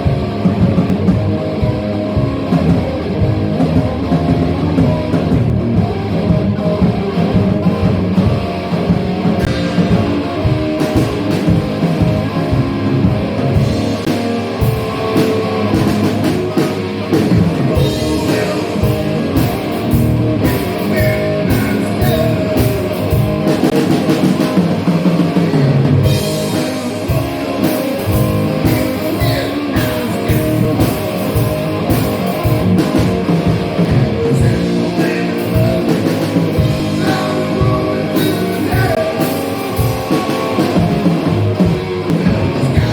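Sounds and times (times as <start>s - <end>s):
drums pounding: 0.0s - 42.9s
electric guitar: 0.0s - 42.9s.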